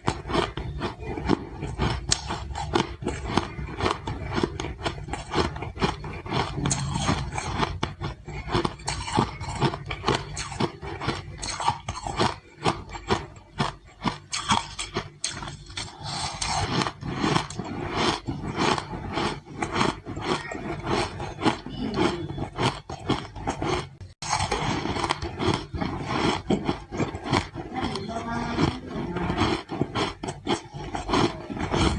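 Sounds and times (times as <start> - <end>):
ice being crunched and chewed: 0.0 - 31.9.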